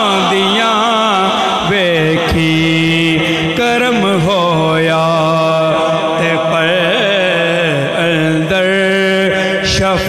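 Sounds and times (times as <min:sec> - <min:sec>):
man singing devotional song: 0:00.0 - 0:10.0.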